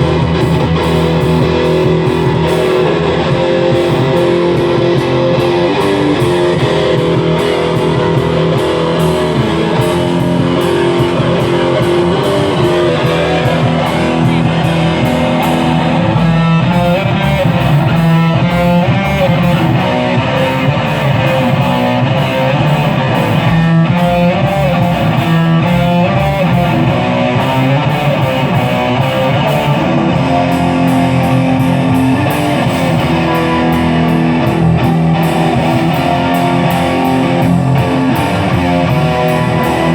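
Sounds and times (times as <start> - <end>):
rock music with electric guitar: 0.0 - 39.9.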